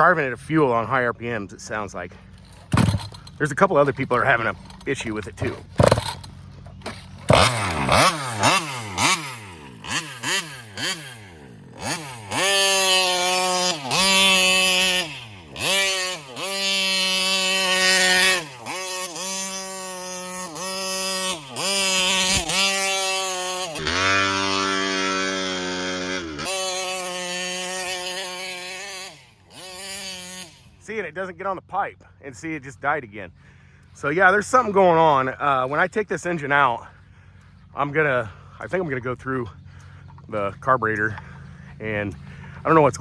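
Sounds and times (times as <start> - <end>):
two-stroke engine revving: 0.0 - 43.0.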